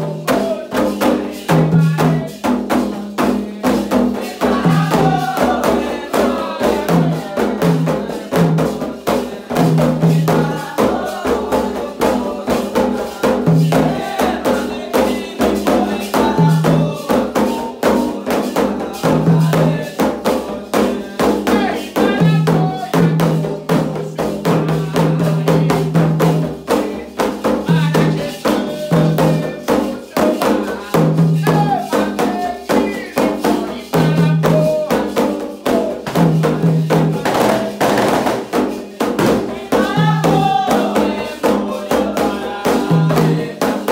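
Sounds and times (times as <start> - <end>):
hand drums beating fast: 0.0 - 43.9
voices singing chants: 0.0 - 43.9.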